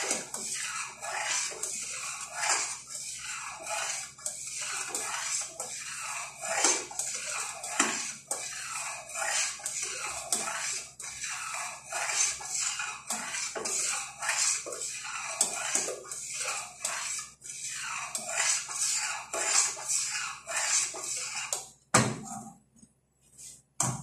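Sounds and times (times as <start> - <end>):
metal spoon scraping a pot: 0.0 - 21.7.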